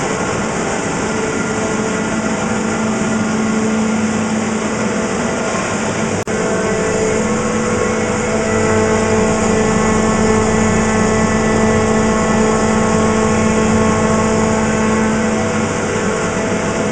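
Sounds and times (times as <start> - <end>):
machine hum: 0.0 - 16.9.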